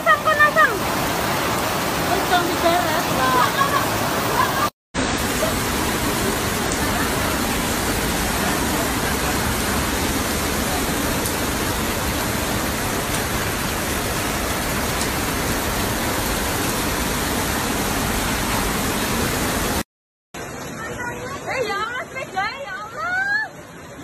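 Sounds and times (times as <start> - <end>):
floodwater rushing: 0.0 - 19.8
heavy rain: 0.0 - 24.0.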